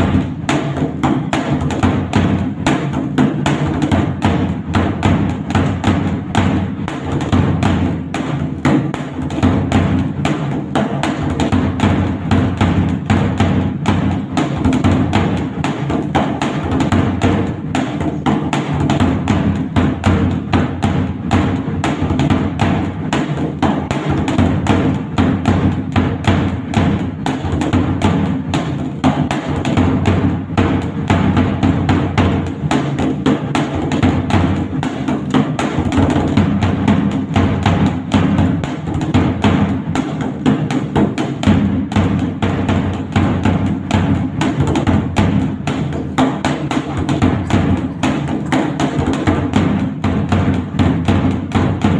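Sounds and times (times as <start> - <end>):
barrel drum played with sticks: 0.0 - 51.9.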